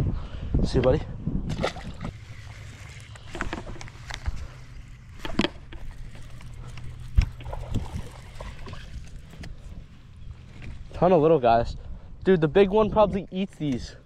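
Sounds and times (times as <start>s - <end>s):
wind rumble on microphone: 0.0s - 5.2s, 5.8s - 14.0s.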